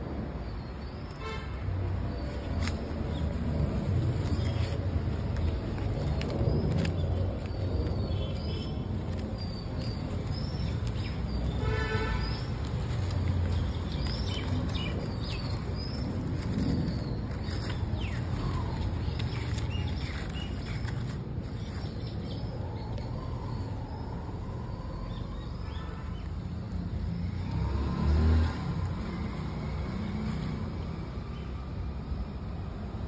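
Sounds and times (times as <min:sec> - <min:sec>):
birds chirping: 0:02.0 - 0:30.2.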